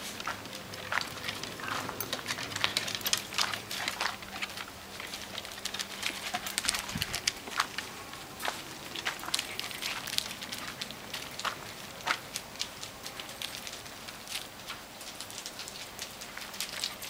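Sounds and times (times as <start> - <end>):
faint steady hum: 0.0 - 17.0
dog claws clicking on wooden deck: 0.2 - 17.0.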